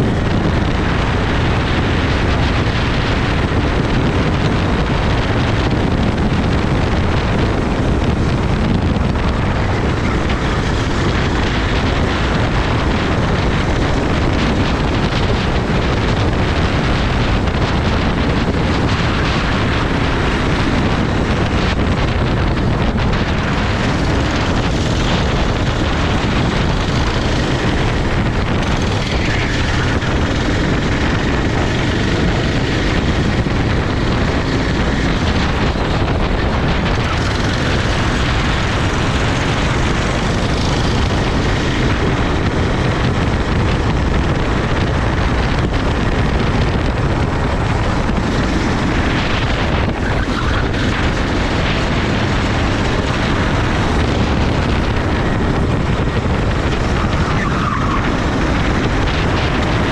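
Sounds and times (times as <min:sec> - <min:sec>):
kart engine running: 0:00.0 - 0:59.9
wind noise on microphone: 0:00.0 - 0:59.9.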